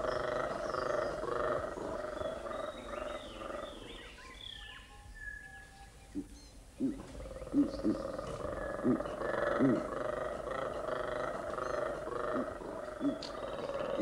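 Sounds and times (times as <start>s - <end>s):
monkeys roaring with pulsed croaks: 0.0s - 4.6s, 6.1s - 14.0s
high chirping calls: 0.0s - 14.0s.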